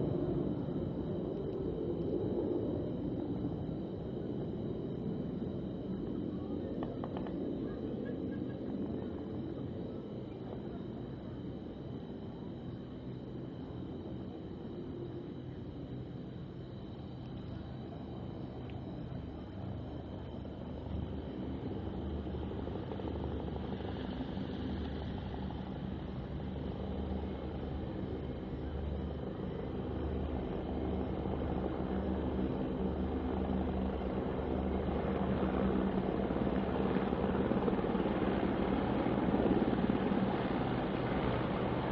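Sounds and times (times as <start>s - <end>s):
helicopter flying over: 0.0s - 12.4s, 17.6s - 41.9s.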